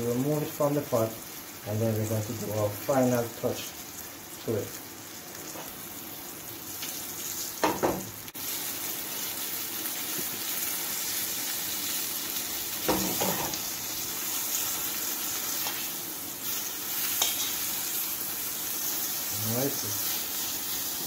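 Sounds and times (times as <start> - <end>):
chicken sizzling in a frying pan: 0.0 - 21.0.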